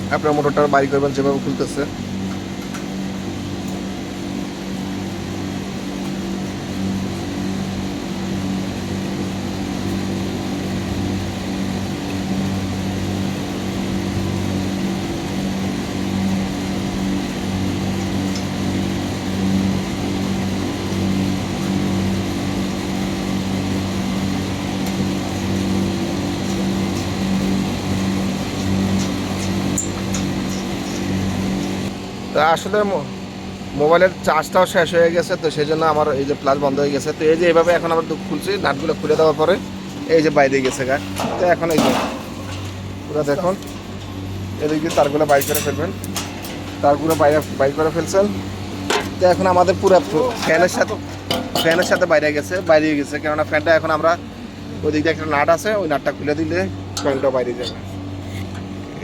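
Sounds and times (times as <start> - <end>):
machine humming and droning: 0.0 - 59.0.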